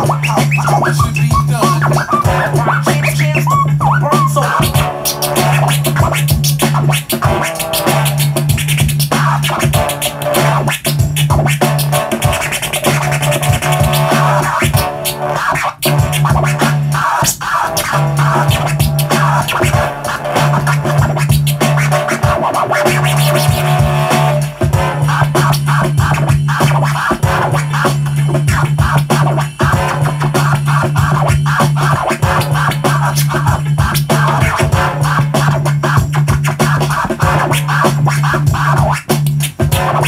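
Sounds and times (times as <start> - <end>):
backing beat with bass: 0.0 - 40.0
turntable scratching: 0.0 - 40.0.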